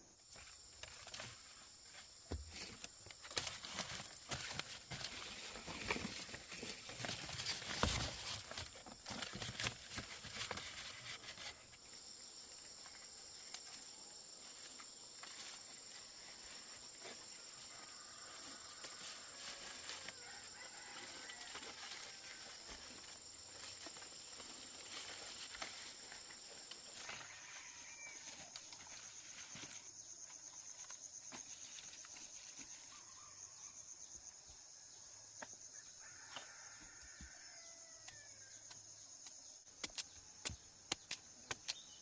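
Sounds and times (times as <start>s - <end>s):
faint outdoor ambience: 0.0s - 42.0s
high insect drone: 0.0s - 42.0s.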